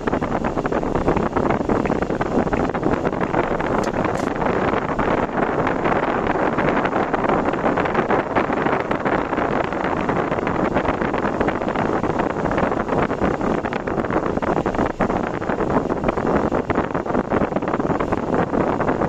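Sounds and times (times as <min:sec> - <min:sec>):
car driving on road: 0:00.0 - 0:19.0
wind noise on microphone: 0:00.0 - 0:19.0.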